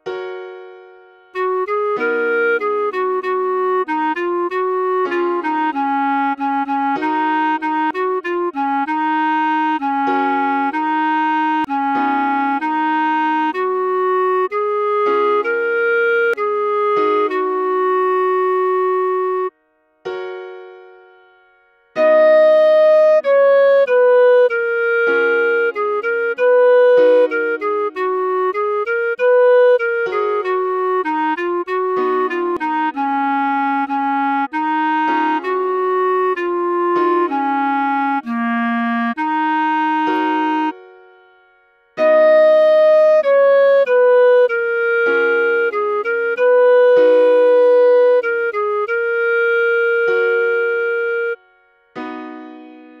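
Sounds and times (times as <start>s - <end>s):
synthesized melody: 0.0s - 21.4s, 22.0s - 41.4s, 42.0s - 53.0s.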